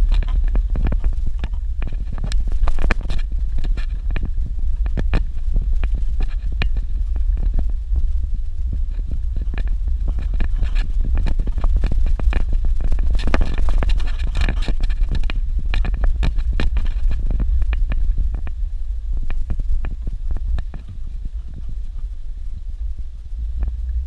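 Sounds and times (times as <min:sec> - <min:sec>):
car rumbling on dirt road: 0:00.0 - 0:24.0.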